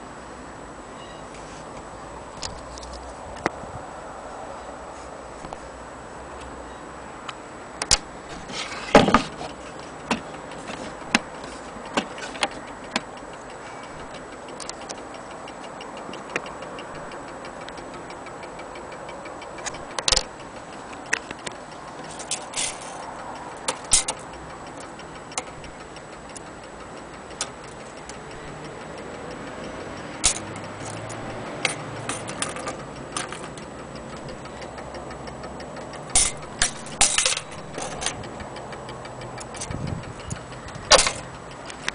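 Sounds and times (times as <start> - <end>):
clock ticking: 7.1 - 41.9.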